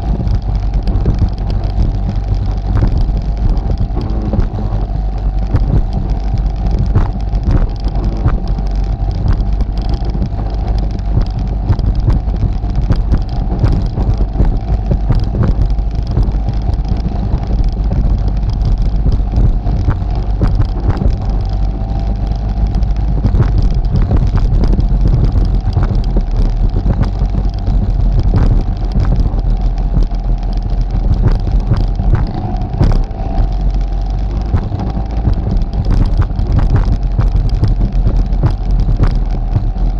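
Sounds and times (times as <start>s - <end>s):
atv engine running: 0.0s - 39.9s
heavy low rumble: 0.0s - 39.9s.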